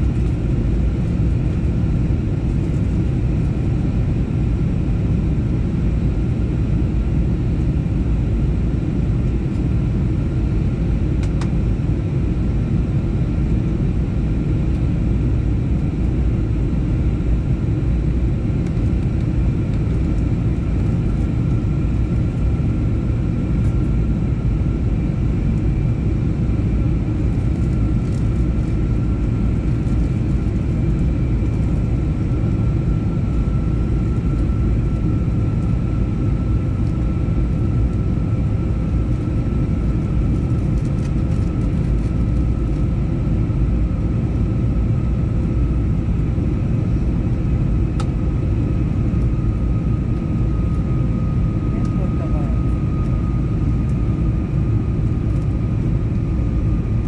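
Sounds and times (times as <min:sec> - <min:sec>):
airliner cabin rumble: 0:00.0 - 0:57.0
faint steady whine: 0:00.0 - 0:57.0.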